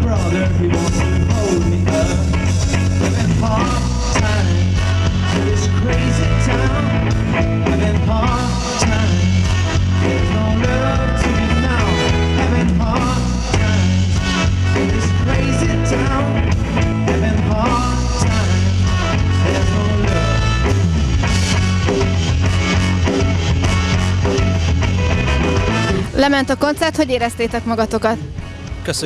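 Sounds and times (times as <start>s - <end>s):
live band playing funk pop: 0.0s - 29.0s
strong bass: 0.0s - 29.0s.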